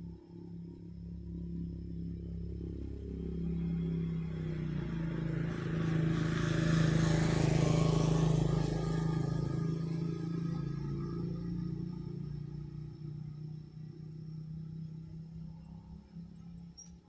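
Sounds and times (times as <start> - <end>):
steady low hum: 0.0 - 17.0
vehicle passing by: 1.0 - 16.8.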